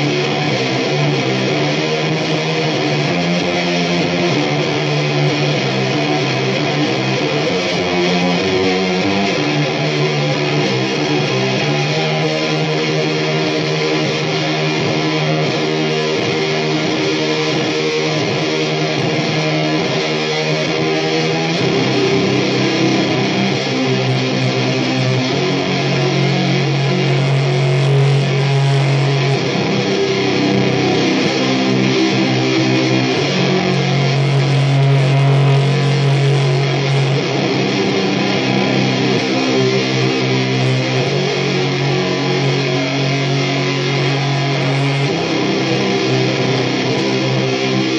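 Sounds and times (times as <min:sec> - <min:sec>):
electric guitar drone riff: 0:00.0 - 0:47.9.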